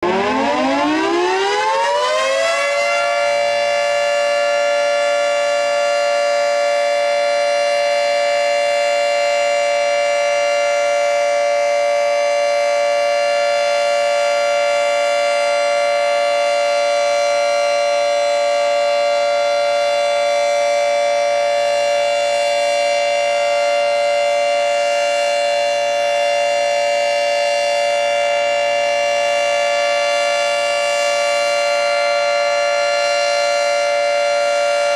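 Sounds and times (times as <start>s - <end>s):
tornado siren: 0.0s - 34.9s.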